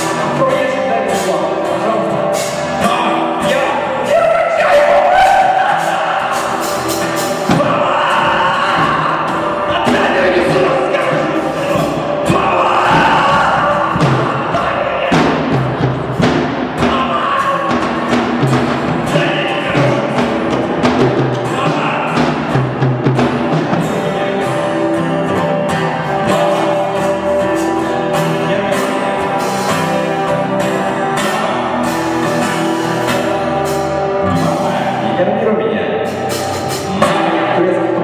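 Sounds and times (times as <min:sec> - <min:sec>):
man singing: 0:00.0 - 0:16.2, 0:16.8 - 0:38.0
drum kit: 0:00.0 - 0:35.2, 0:36.1 - 0:38.0
acoustic guitar: 0:00.0 - 0:38.0.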